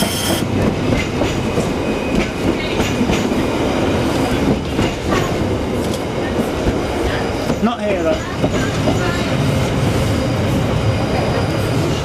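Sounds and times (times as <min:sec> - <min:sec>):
streetcar rumbling on rails: 0:00.0 - 0:12.0.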